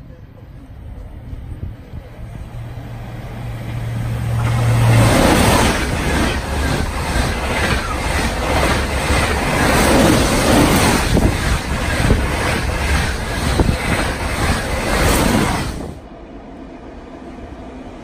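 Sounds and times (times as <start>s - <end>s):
high-speed train rushing past: 0.0s - 18.0s.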